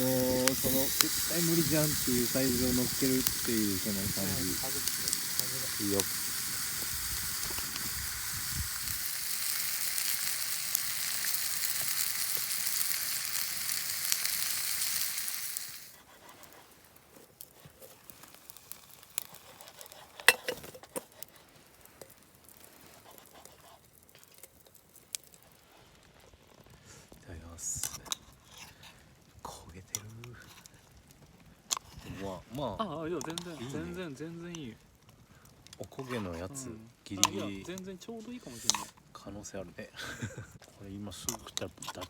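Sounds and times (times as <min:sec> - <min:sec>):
beef sizzling over fire: 0:00.0 - 0:42.0.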